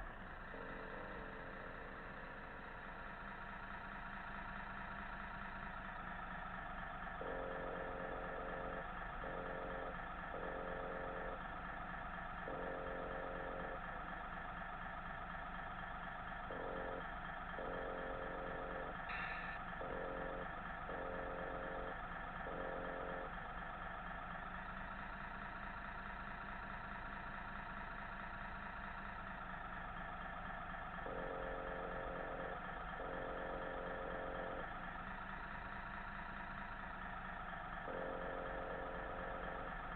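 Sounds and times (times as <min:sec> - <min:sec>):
low engine tone: 0:00.0 - 0:39.9
simulated diesel engine idling: 0:00.0 - 0:39.9.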